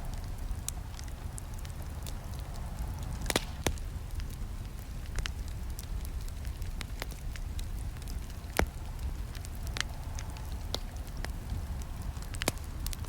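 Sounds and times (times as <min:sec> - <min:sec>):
wood campfire crackling: 0:00.0 - 0:13.0.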